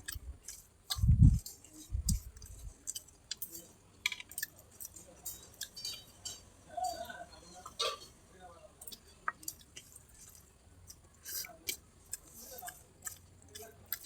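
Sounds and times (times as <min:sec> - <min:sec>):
chewing with wet mouth clicks: 0:00.0 - 0:07.1, 0:08.8 - 0:14.0.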